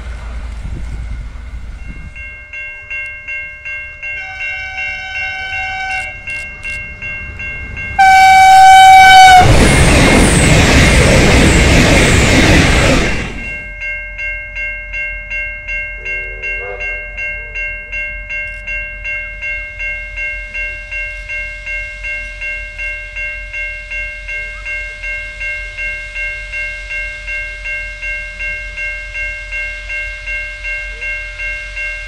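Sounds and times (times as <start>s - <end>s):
diesel railcar passing: 0.0s - 14.0s, 14.6s - 32.0s
level crossing bell ringing: 1.4s - 9.5s, 13.4s - 32.0s.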